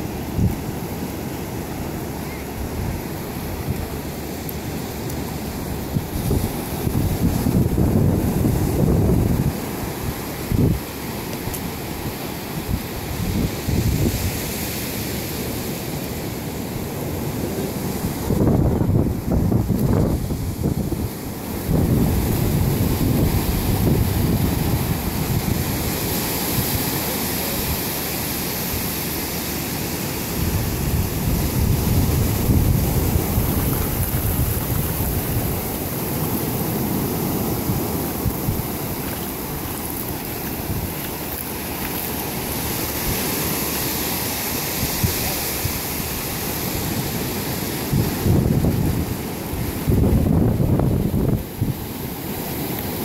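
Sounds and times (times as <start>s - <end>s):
ocean surf breaking: 0.0s - 53.0s
wind buffeting microphone: 2.5s - 14.6s, 17.2s - 27.8s, 30.1s - 52.9s.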